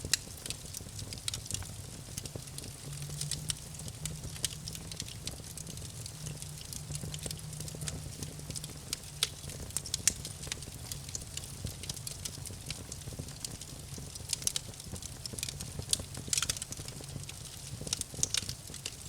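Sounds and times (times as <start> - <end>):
campfire crackling and popping: 0.0 - 19.0
low rumble of fire: 0.0 - 19.0.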